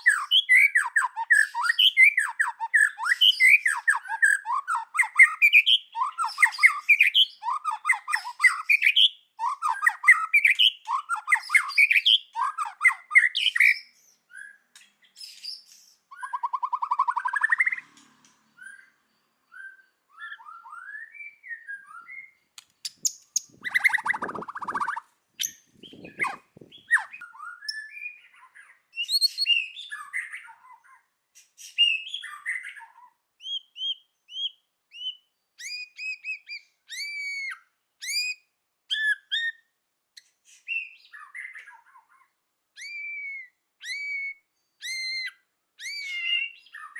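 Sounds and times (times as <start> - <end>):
bird singing varied song: 0.0 - 46.9.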